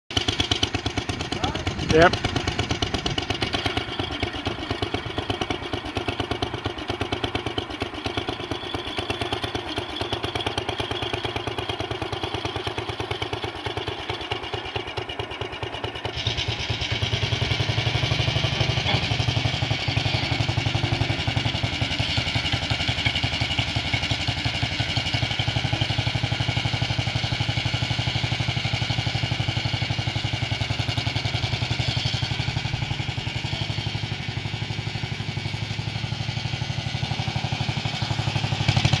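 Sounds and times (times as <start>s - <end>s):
garden tractor engine running: 0.1s - 39.0s.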